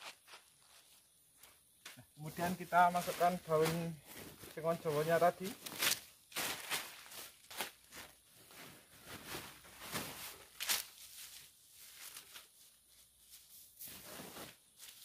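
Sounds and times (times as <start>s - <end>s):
leafy twigs rustling: 2.4s - 15.0s.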